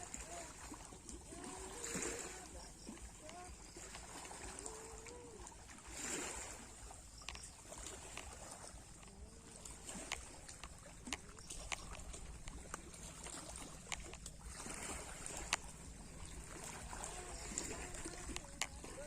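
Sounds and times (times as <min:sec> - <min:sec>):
sea water lapping: 0:00.0 - 0:19.0.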